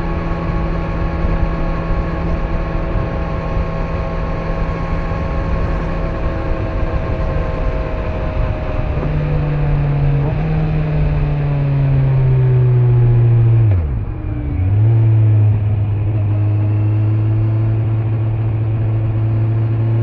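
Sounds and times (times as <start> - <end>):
motorcycle engine cruising: 0.0 - 20.0
road noise: 0.0 - 20.0.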